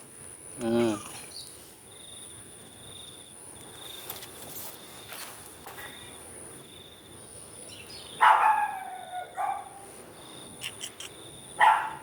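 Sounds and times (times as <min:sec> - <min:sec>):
faint steady high whine: 0:00.0 - 0:12.0.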